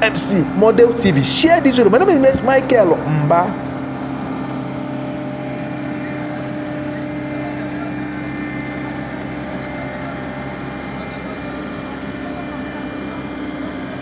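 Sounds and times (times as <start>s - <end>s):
motor engine running: 0.0s - 14.0s.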